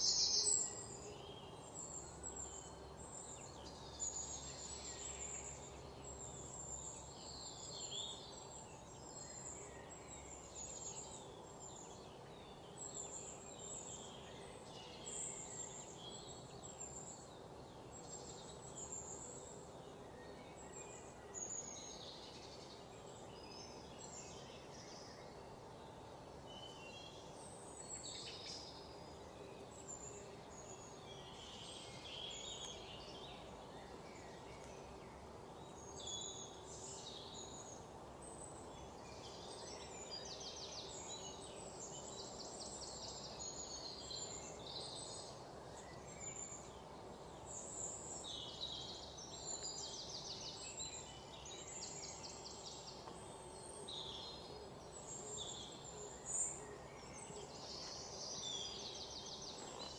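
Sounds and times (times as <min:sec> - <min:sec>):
faint steady background noise: 0:00.0 - 0:59.9
small birds chirping: 0:00.0 - 0:59.9.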